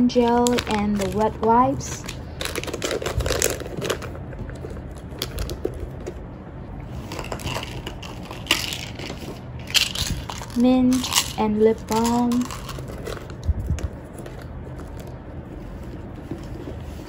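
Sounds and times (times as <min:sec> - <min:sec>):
packet crinkling: 0:00.2 - 0:06.1, 0:07.0 - 0:15.1.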